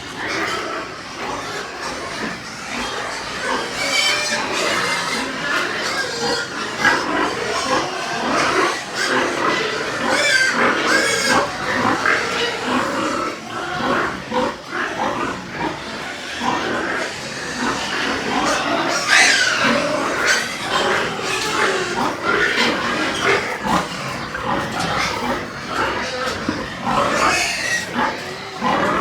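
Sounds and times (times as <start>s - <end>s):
pigs grunting and squealing: 0.0s - 29.0s.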